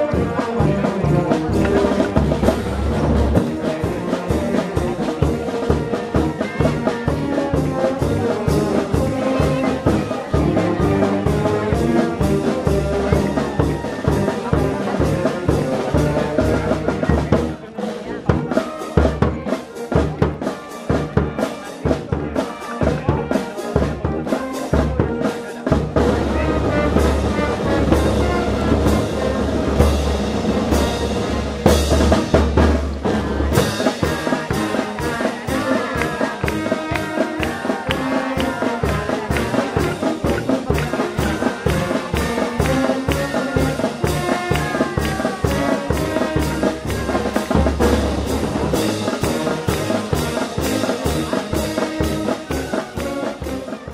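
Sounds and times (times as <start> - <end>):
brass band music with drums: 0.0 - 53.9.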